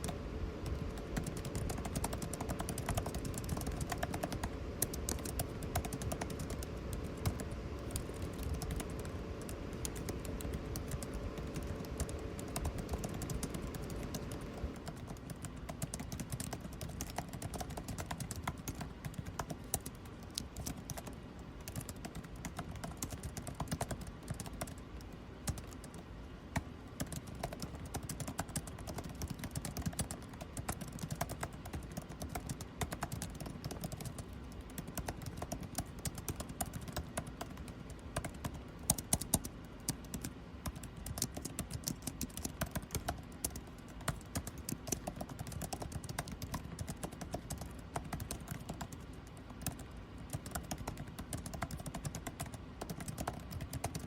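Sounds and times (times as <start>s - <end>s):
air conditioning noise: 0.0s - 54.0s
computer keyboard typing: 0.0s - 54.0s
steady low hum: 0.0s - 54.0s.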